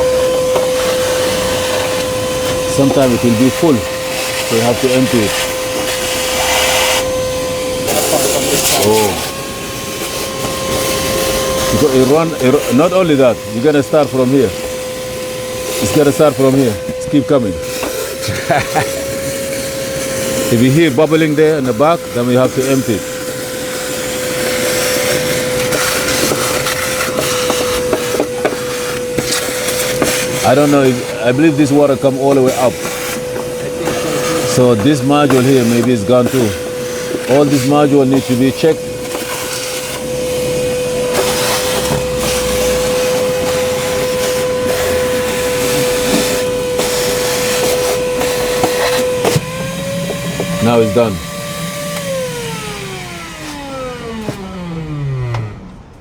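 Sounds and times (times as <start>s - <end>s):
shop vacuum humming: 0.0s - 56.0s.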